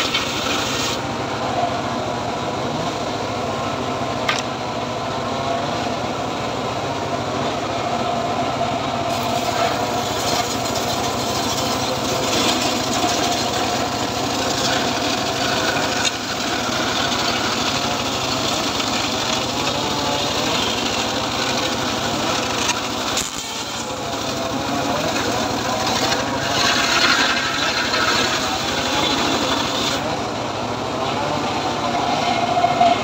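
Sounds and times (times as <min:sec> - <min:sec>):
circular saw cutting log: 0:00.0 - 0:03.3, 0:07.6 - 0:33.0.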